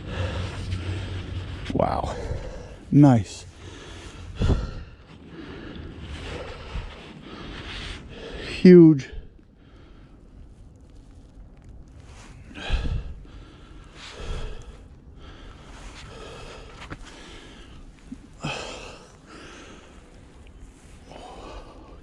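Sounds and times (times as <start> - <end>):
man breathing hard: 0.0 - 2.9, 3.5 - 10.3, 12.4 - 22.0.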